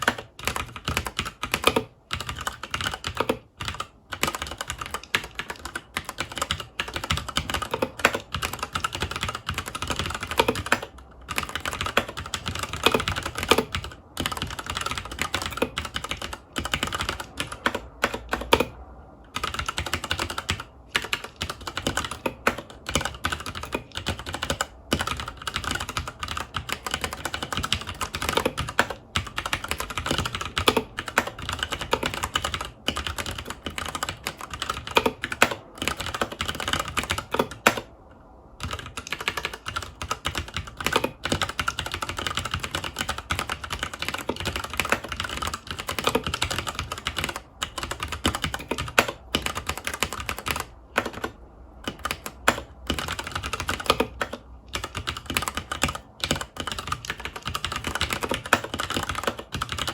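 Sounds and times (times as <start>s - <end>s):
mechanical keyboard typing: 0.0s - 38.0s, 38.6s - 59.9s.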